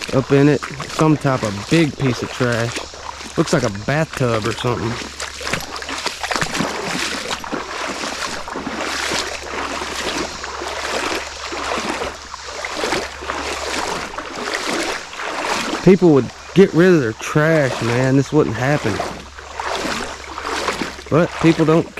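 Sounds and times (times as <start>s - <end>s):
footsteps wading through water: 0.0s - 21.9s.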